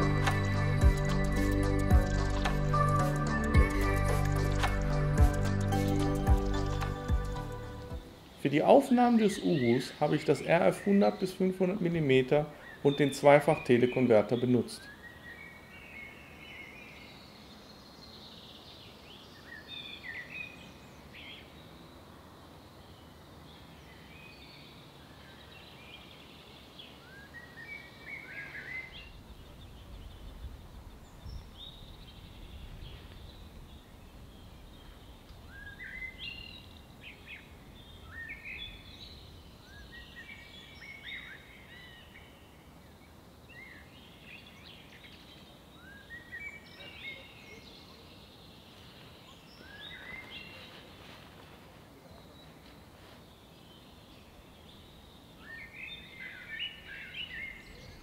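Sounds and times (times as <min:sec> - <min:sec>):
faint outdoor hiss: 0:00.0 - 0:58.0
songbirds chirping: 0:00.0 - 0:58.0.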